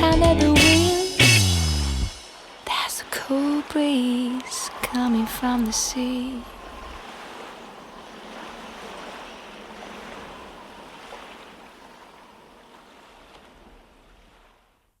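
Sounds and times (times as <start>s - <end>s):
ocean waves washing: 0.8s - 14.7s.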